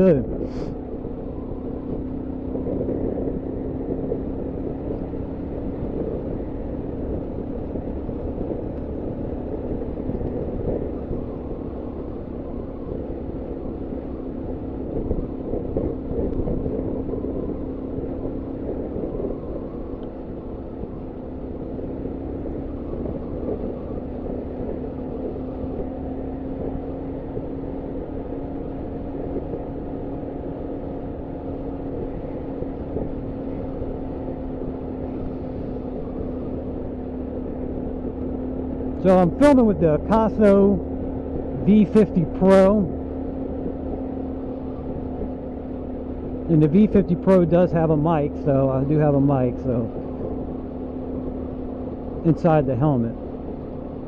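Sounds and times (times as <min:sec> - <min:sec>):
motorcycle engine running: 0:00.0 - 0:54.0
wind rumble: 0:00.0 - 0:54.0.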